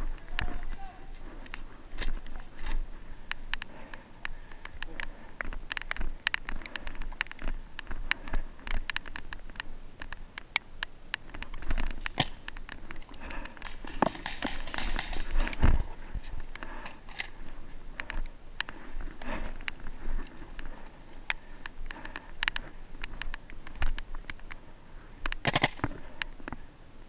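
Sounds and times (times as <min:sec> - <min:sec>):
gear clicks and knocks: 0:01.4 - 0:24.6.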